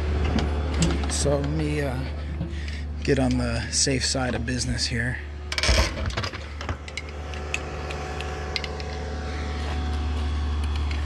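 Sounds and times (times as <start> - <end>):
digging machine engine running: 0.0 - 11.0.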